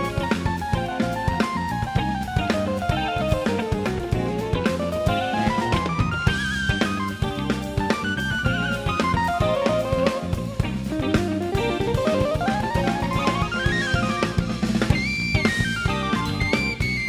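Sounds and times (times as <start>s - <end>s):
bass line: 0.0s - 17.0s
drum kit: 0.0s - 17.0s
electric guitar: 0.0s - 17.0s.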